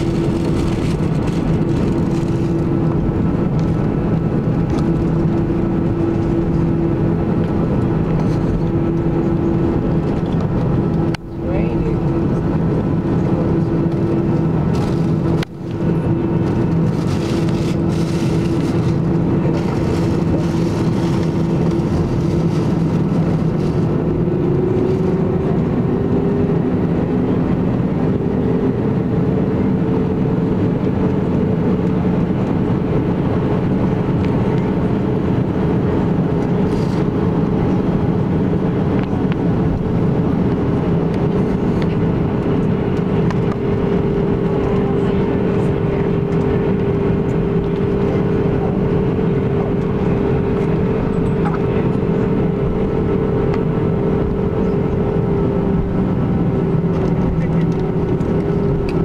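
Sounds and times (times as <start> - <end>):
jet engine cabin hum: 0.0 - 59.0.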